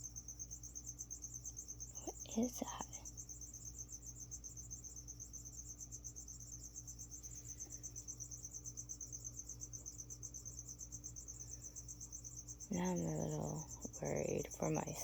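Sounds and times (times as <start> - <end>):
cricket chirping: 0.0 - 15.0
steady low hum: 0.0 - 15.0.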